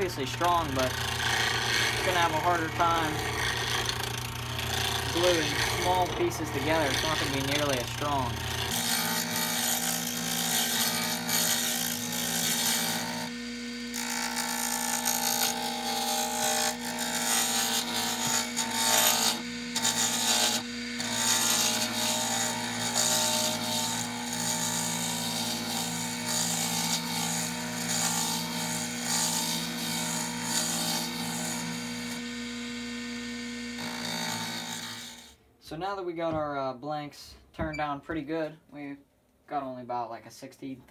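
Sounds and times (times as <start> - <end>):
wood lathe motor whine: 0.0 - 35.3
turning tool cutting wood: 0.0 - 35.4.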